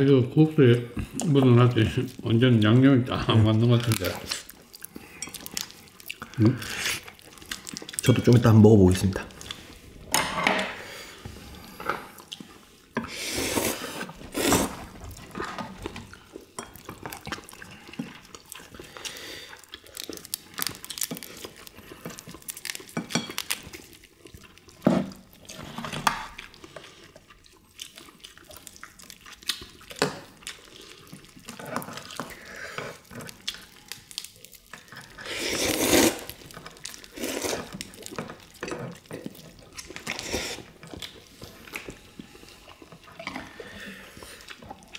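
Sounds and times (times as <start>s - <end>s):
wet sucking and chewing: 3.7s - 8.2s, 10.9s - 44.9s.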